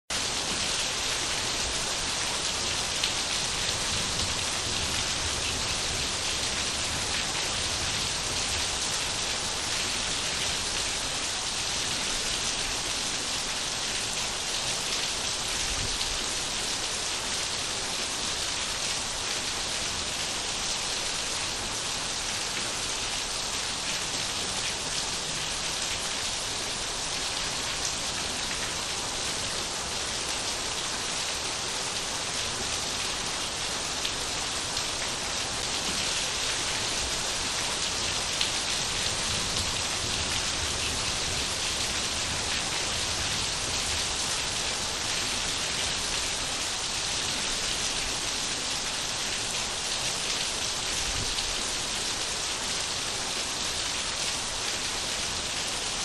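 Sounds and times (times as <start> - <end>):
steady rain on surfaces: 0.1 - 56.0.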